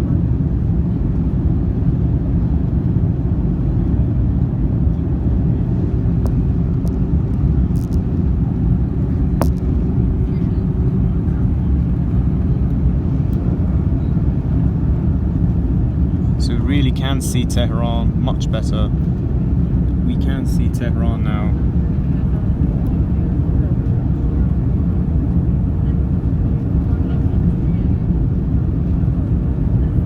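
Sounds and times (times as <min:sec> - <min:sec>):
aircraft cabin rumble: 0:00.0 - 0:30.0.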